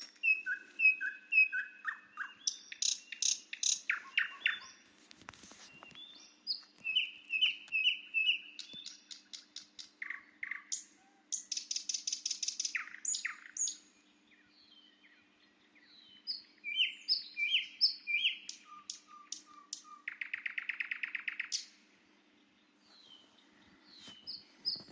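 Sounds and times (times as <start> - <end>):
nightingale song: 0.0 - 24.9
other birds singing: 0.0 - 24.9.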